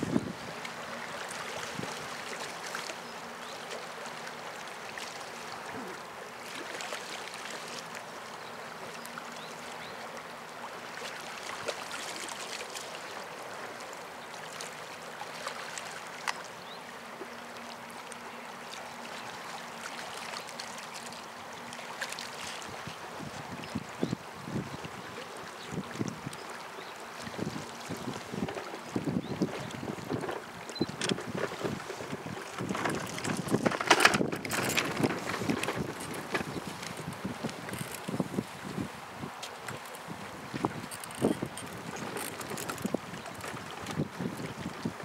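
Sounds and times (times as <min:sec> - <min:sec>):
river water lapping: 0:00.0 - 0:45.0.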